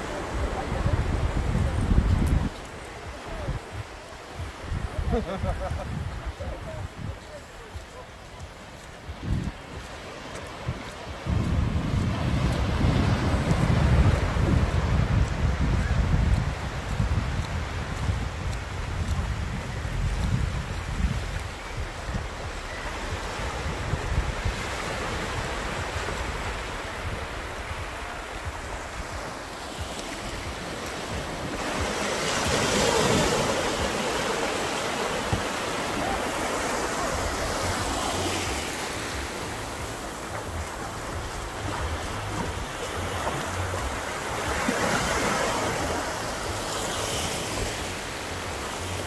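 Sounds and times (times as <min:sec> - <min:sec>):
low wind rumble on microphone: 0:00.0 - 0:49.0
small waves breaking on shore: 0:00.0 - 0:49.0.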